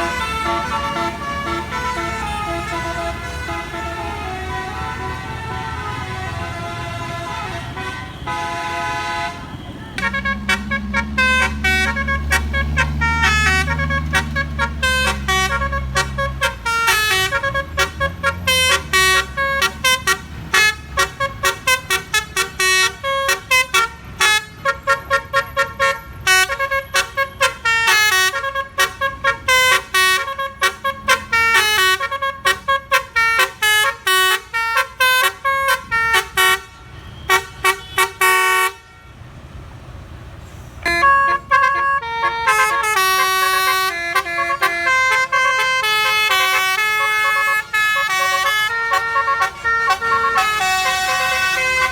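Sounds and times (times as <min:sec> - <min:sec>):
air horn playing a tune: 0:00.0 - 0:39.0, 0:40.8 - 0:51.9
bus engine running low: 0:00.0 - 0:51.9.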